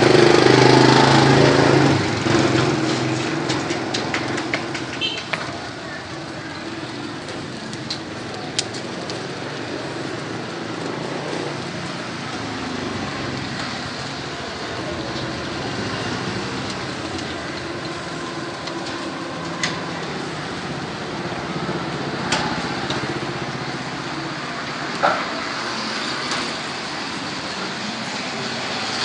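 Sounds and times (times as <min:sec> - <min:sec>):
traffic engine noise: 0:00.0 - 0:29.0.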